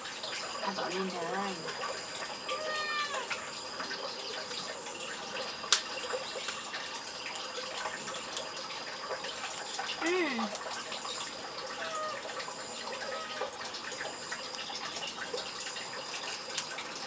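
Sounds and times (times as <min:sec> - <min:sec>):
running water: 0:00.0 - 0:17.0.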